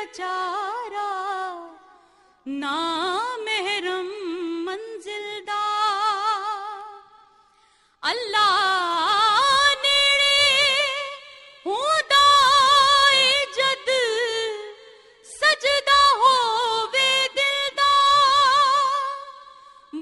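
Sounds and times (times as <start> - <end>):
woman singing unaccompanied: 0.0 - 1.8, 2.5 - 7.2, 8.0 - 20.0.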